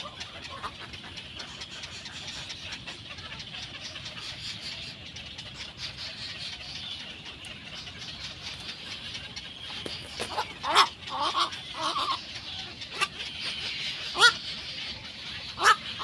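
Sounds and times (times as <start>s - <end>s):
birds chittering: 0.0s - 16.0s.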